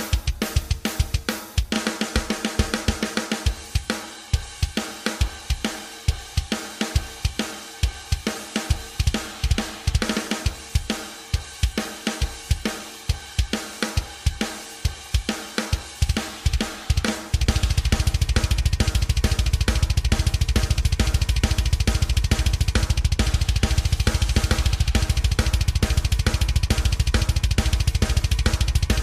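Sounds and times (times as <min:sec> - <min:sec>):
crashing cymbals: 0:00.0 - 0:29.0
hi-hat: 0:00.0 - 0:29.0
kick drum: 0:00.0 - 0:29.0
snare drum: 0:00.0 - 0:29.0.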